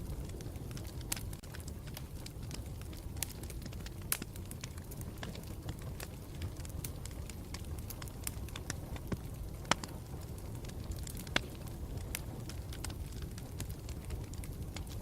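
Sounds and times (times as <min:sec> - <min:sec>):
burning wood crackling and popping: 0:00.0 - 0:15.0
low rumble of flame: 0:00.0 - 0:15.0.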